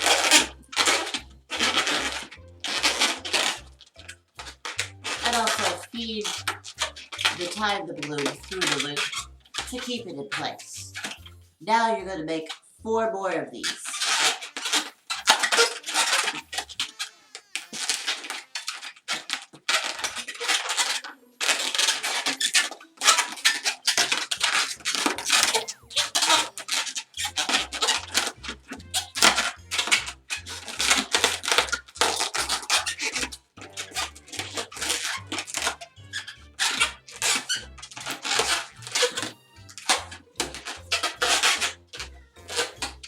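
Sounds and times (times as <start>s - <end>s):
balloon squeaking and rubbing: 0.0s - 43.0s.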